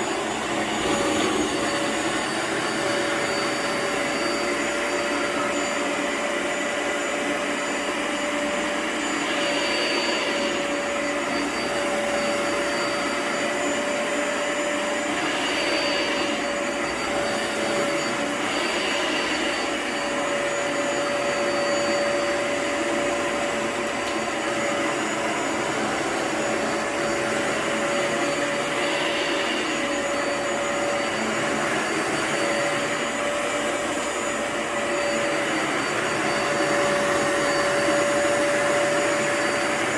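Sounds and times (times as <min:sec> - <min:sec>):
vacuum motor whining: 0:00.0 - 0:39.9.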